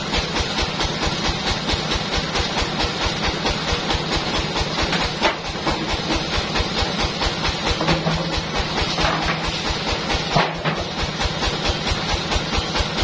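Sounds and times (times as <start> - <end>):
band saw mill running: 0.0 - 13.0.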